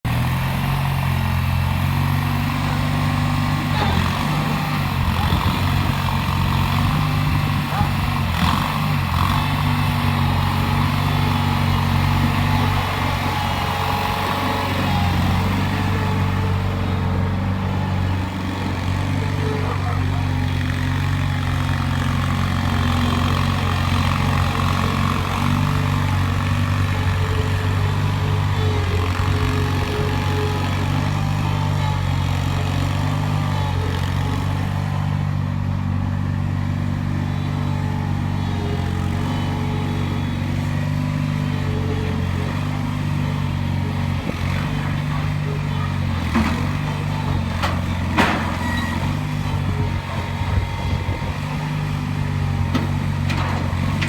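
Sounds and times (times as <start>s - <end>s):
loader engine running steadily: 0.0s - 54.0s.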